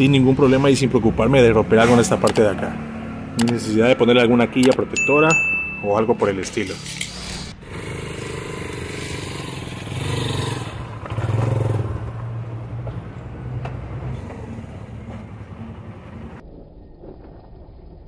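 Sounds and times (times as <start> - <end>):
motorcycle engine revving: 0.0 - 5.0, 6.6 - 16.4.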